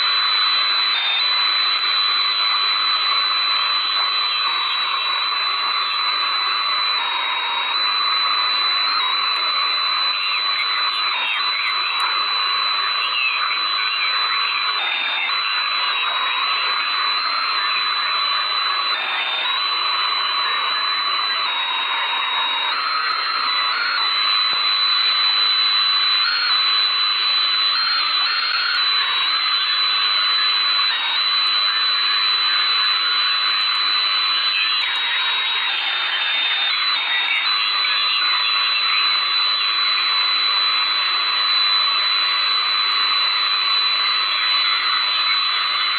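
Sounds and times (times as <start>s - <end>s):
high whistle: 0.0s - 45.9s
radio static hiss: 0.0s - 45.9s.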